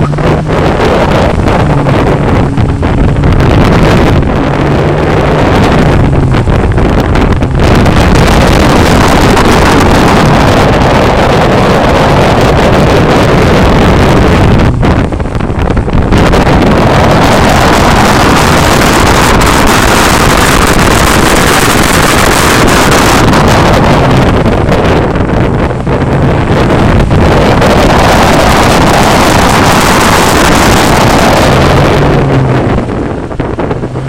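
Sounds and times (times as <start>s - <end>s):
car engine driven hard: 0.0s - 34.0s
wind buffeting on microphone: 0.0s - 34.0s.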